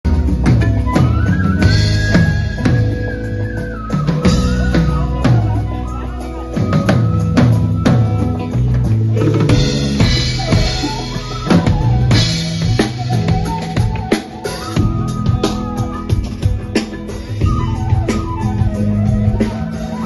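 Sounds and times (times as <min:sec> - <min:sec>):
drum kit beat: 0:00.0 - 0:20.0
flute melody: 0:00.1 - 0:20.0.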